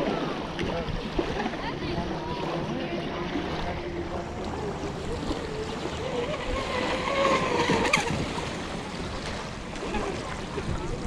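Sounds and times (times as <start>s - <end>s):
small waves lapping: 0.0s - 11.0s
wind: 0.0s - 11.0s.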